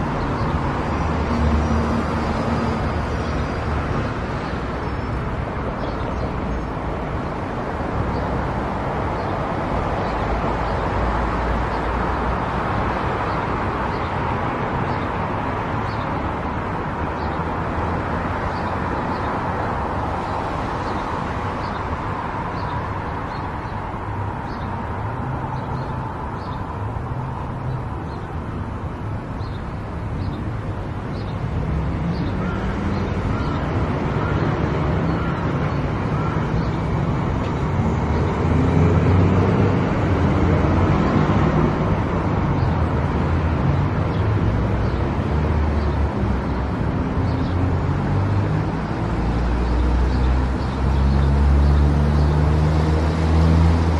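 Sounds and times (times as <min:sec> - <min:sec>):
road and tyre noise: 0:00.0 - 0:53.9.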